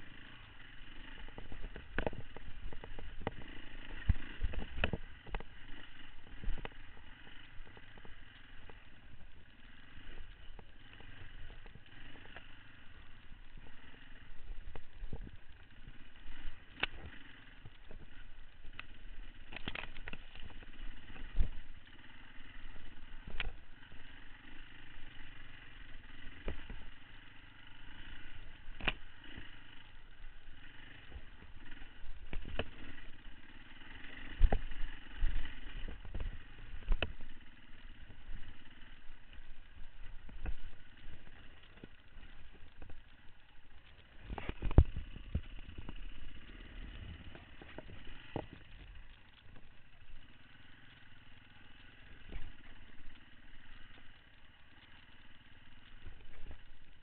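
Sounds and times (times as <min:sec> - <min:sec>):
dirt bike engine running: 0:00.0 - 0:57.0
knocks and clatters of bike: 0:00.0 - 0:57.0.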